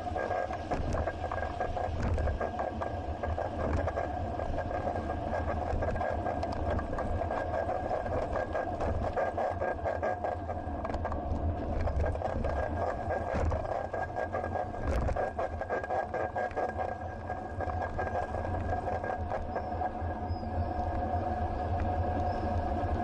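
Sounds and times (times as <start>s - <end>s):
bicycle rattle and road rumble: 0.0s - 23.0s
small clicks and knocks: 0.4s - 19.6s.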